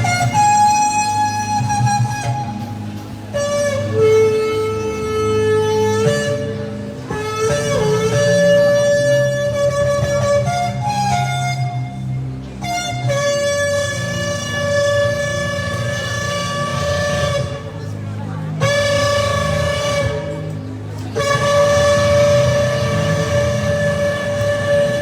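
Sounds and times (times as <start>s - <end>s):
ram's horn blasts: 3.3s - 25.0s.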